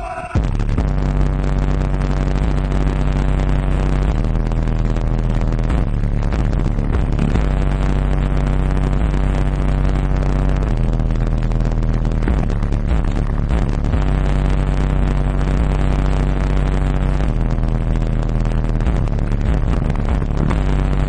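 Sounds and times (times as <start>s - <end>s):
deep subwoofer bass notes: 0.0s - 21.0s.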